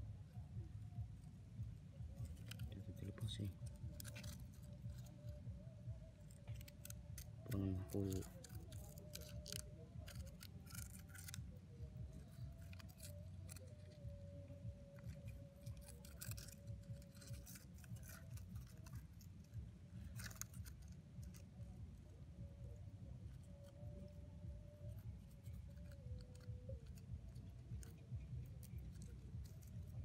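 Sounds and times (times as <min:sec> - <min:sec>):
faint steady hum: 0:00.0 - 0:30.0
rod scraping against rock: 0:02.1 - 0:05.4, 0:06.2 - 0:21.6, 0:23.4 - 0:30.0.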